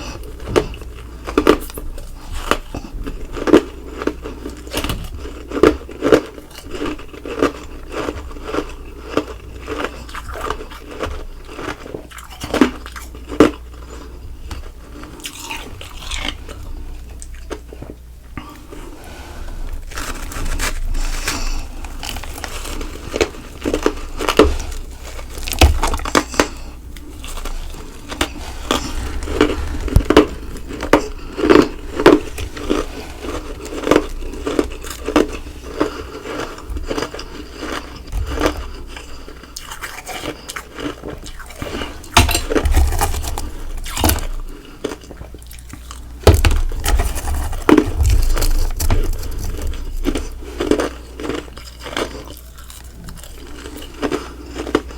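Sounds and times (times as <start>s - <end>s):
chewing crunchy ice: 0.0s - 54.9s.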